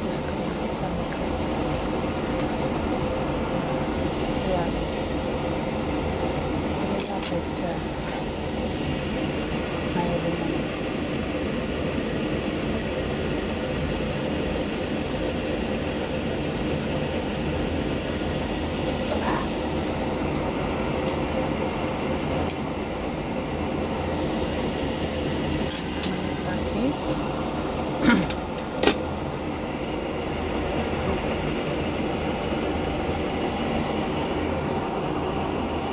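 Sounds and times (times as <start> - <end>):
pot boiling on a stove: 0.0 - 35.9.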